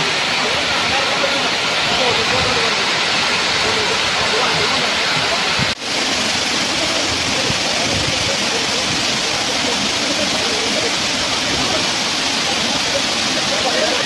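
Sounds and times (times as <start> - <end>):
waterfall rushing into a pool: 0.0 - 14.0.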